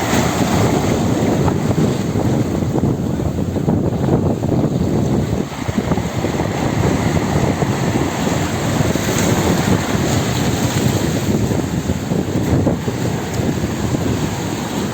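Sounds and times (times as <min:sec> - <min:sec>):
sea waves: 0:00.0 - 0:14.9
wind buffeting the microphone: 0:00.0 - 0:14.9.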